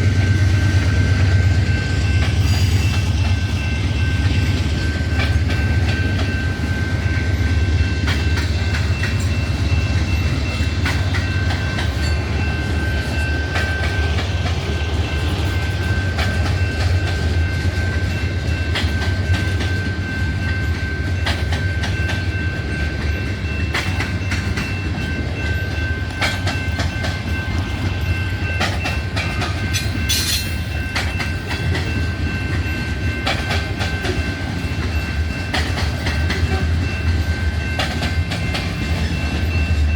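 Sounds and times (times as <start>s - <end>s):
freight train rumbling past: 0.0s - 39.9s
wheels clacking over rails: 0.0s - 39.9s.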